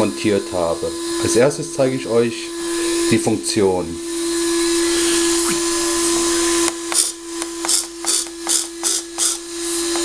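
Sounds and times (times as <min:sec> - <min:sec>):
steady electric hum: 0:00.0 - 0:10.0.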